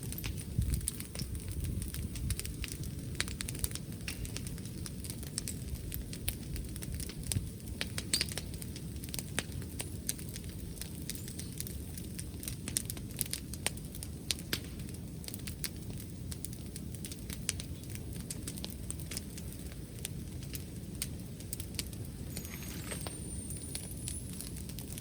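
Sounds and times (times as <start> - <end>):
wood bonfire crackling: 0.0 - 25.0.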